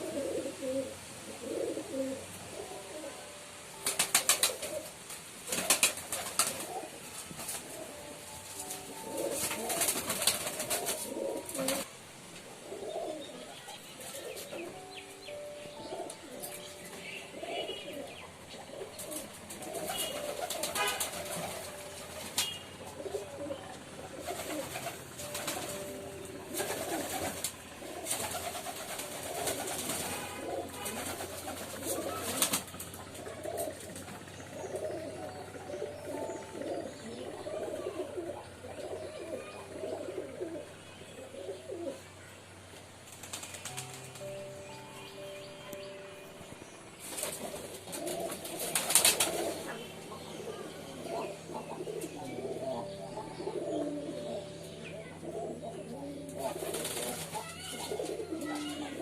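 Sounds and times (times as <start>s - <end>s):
pigeons cooing: 0.0s - 43.8s, 47.0s - 59.0s.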